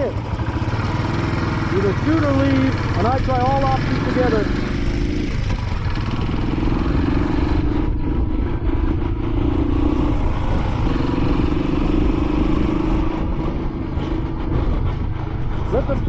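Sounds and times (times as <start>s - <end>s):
motorcycle engine running: 0.0s - 16.0s
wind and road noise rumble: 0.0s - 16.0s.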